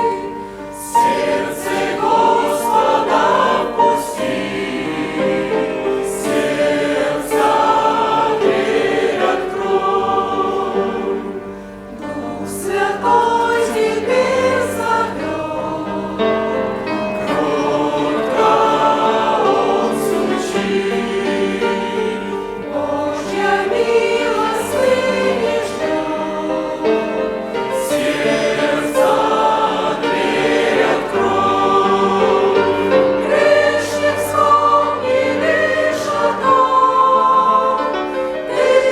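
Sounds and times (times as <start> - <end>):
congregation singing a hymn: 0.0 - 38.9.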